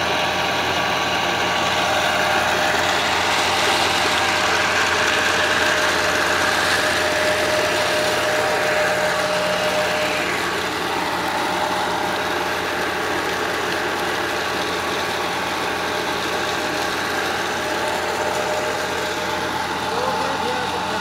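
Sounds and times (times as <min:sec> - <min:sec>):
tractor diesel engine running: 0:00.0 - 0:21.0
water gushing and splashing: 0:00.2 - 0:21.0.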